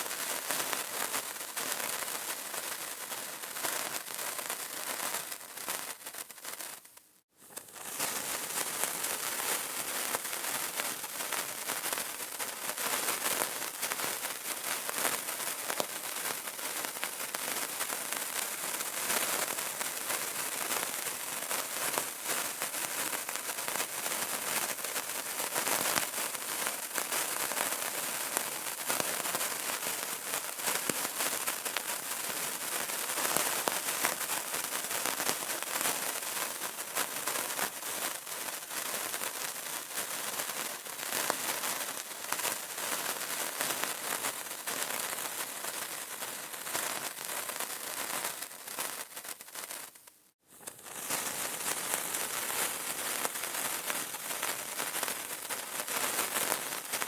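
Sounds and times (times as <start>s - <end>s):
candle crackling: 0.0s - 57.0s.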